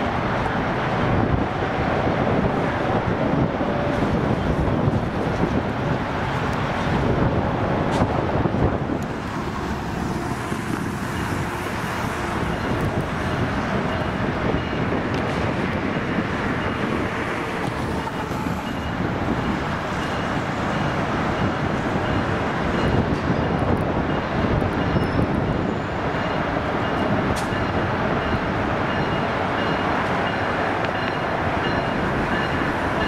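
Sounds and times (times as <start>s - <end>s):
distant train approaching: 0.0s - 33.0s
road traffic rumble: 0.0s - 33.0s
wind on microphone: 0.0s - 33.0s.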